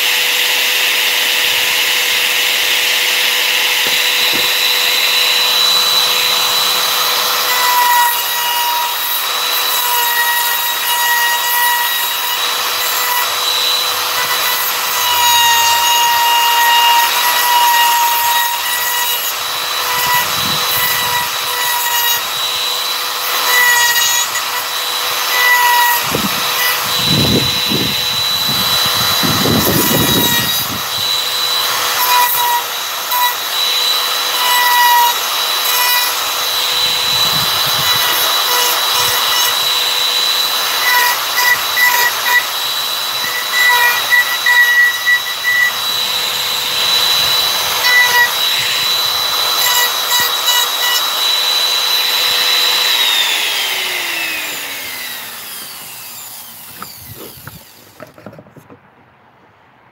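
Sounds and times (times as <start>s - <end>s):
router cutting wood: 0.0s - 58.8s.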